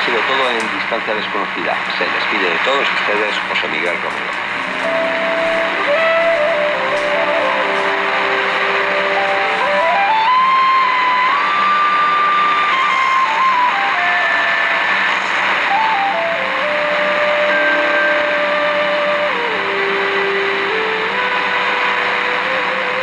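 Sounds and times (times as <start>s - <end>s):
radio melody of held tones: 0.0s - 23.0s
static hiss: 0.0s - 23.0s.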